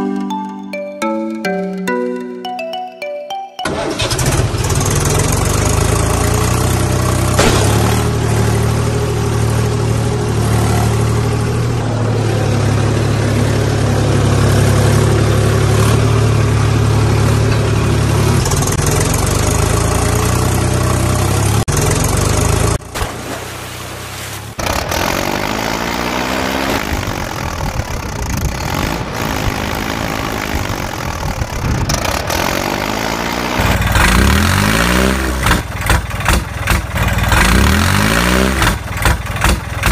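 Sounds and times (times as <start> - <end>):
tractor engine running: 3.6 - 39.9.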